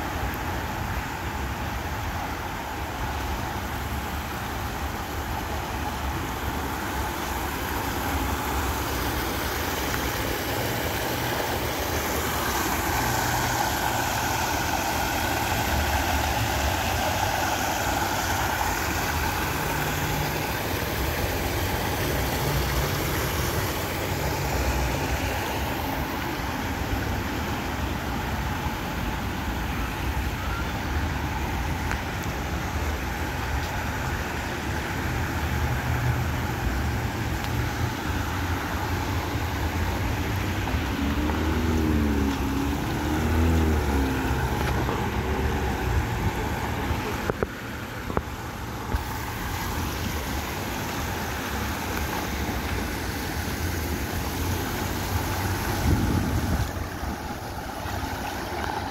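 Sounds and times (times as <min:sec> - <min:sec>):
waterfall splashing into pond: 0:00.0 - 0:58.9.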